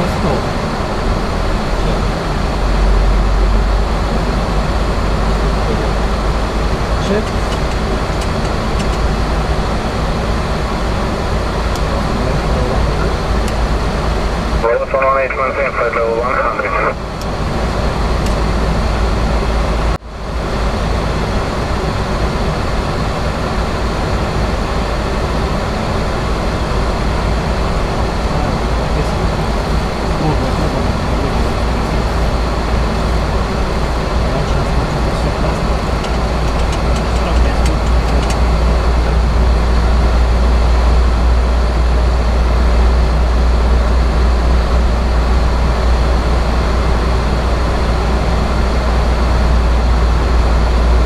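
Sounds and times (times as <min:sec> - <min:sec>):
airplane cockpit noise in flight: 0:00.0 - 0:51.0
deep rumble: 0:00.0 - 0:51.0.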